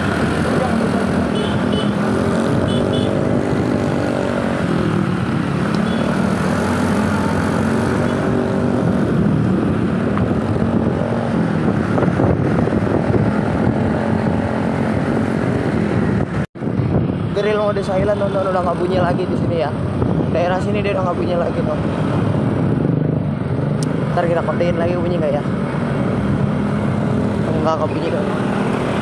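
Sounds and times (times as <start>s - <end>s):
heavy vehicle engines running: 0.0s - 29.0s.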